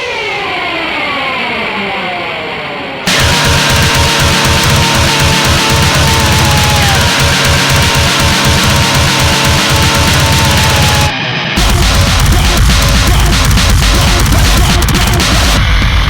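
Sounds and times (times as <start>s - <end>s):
heavy metal music: 3.1s - 16.0s.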